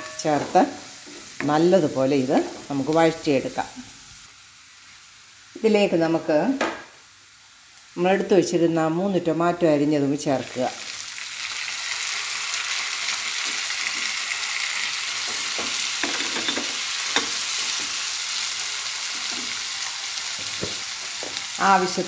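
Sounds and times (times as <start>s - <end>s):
tomatoes sizzling in hot oil: 0.0s - 22.0s.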